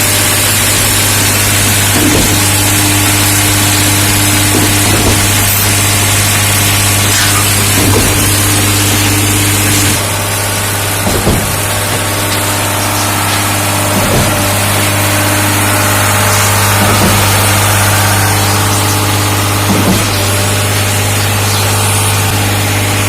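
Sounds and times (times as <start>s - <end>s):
concrete pump humming: 0.0s - 23.0s
pump knocking: 0.0s - 23.0s.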